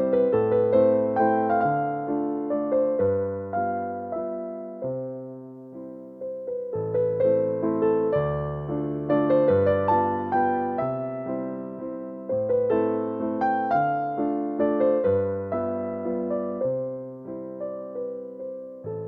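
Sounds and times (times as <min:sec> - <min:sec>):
gentle electric piano music: 0:00.0 - 0:19.0.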